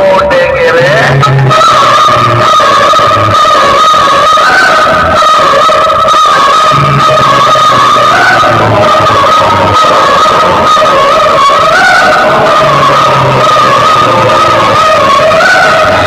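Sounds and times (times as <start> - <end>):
held high synth note: 1.1 - 16.0.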